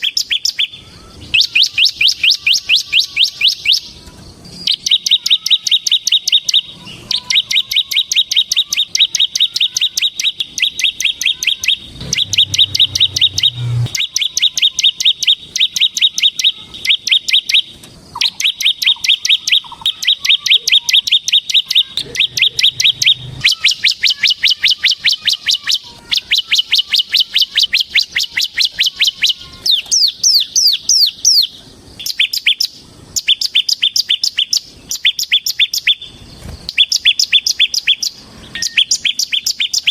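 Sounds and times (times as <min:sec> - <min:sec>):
bird singing rapid trills: 0:00.0 - 0:39.9.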